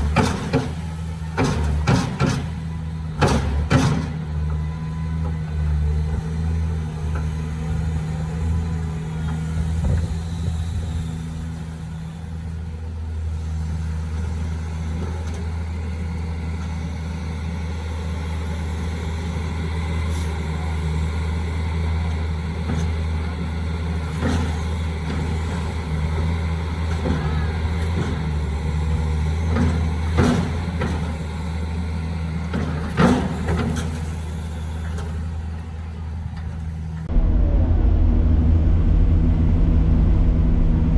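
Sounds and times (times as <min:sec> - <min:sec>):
construction machine engine humming: 0:00.0 - 0:40.9.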